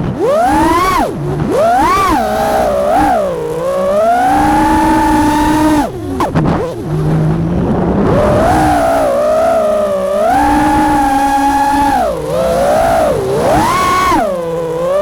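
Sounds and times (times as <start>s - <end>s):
low idle hum: 0.0s - 15.0s
quadcopter motors whining: 0.0s - 15.0s.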